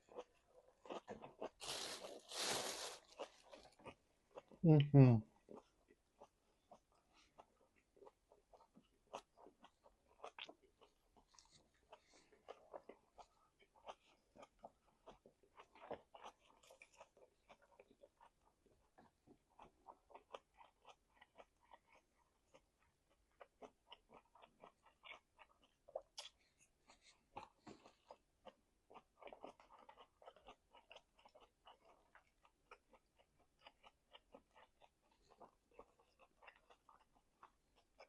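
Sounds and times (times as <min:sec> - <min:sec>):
chewing with wet mouth smacks: 0:05.4 - 0:38.0.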